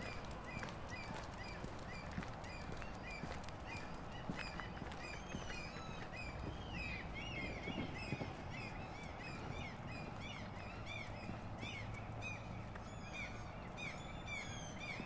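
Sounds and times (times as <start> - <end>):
light footsteps: 0.0 - 14.2.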